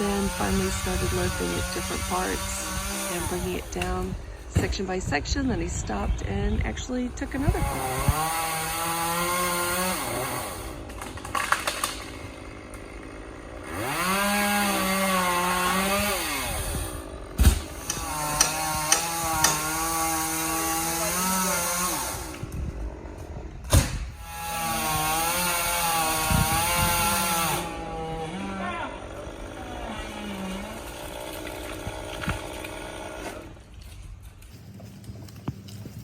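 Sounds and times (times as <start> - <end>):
chainsaw revving and idling: 0.0 - 4.5, 7.2 - 34.0.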